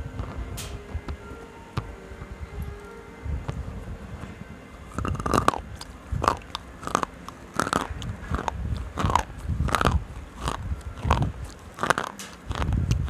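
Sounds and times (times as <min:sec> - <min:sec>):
crunching pencils between teeth: 0:01.8 - 0:13.0.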